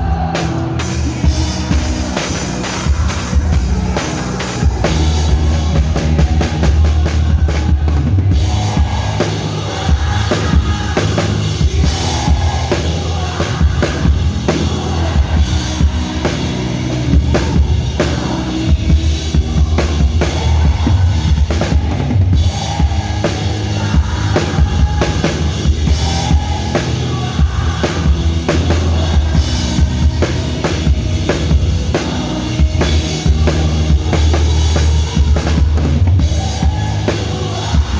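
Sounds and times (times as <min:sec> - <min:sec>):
drum kit playing a groove: 0:00.0 - 0:37.9
sustained low bass: 0:00.0 - 0:37.9.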